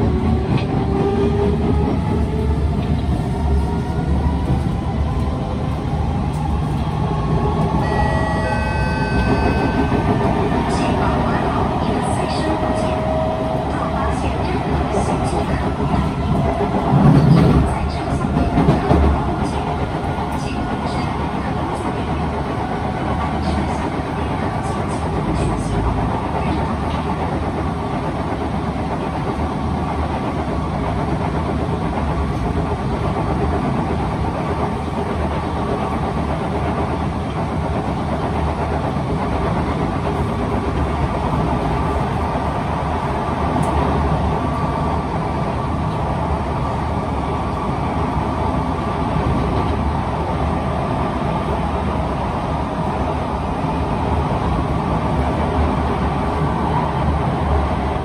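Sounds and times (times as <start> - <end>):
train motors and wheels rumbling: 0.0 - 58.0.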